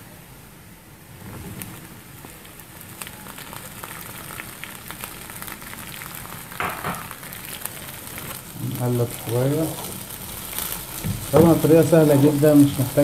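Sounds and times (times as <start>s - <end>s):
vegetables sizzling in oil: 1.2s - 13.0s.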